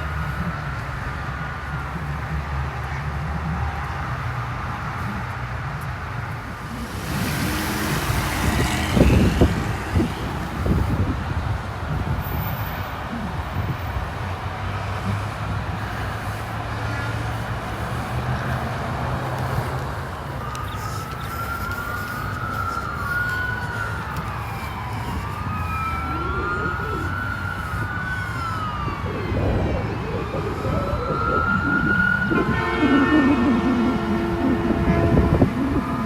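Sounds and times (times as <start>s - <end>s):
fire truck engines running: 0.0s - 36.0s
heavy vehicle passing close: 0.0s - 36.0s.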